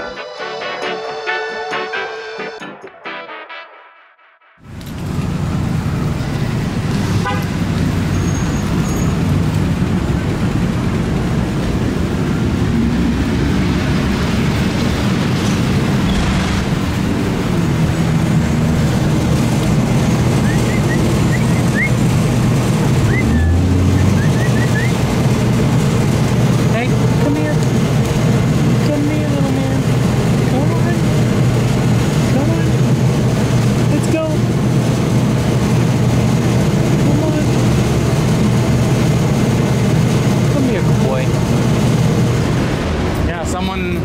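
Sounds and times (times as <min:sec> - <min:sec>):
heavy road traffic roar: 0:00.0 - 0:02.8, 0:04.6 - 0:44.0.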